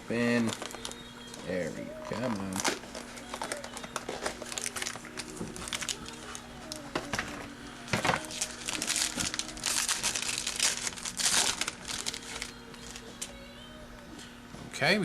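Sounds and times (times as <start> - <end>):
wrapper crinkling: 0.3 - 13.4.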